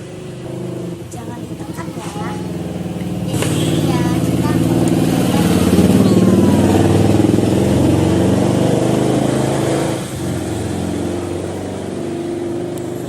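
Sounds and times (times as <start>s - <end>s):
engine running close by: 0.0s - 13.0s.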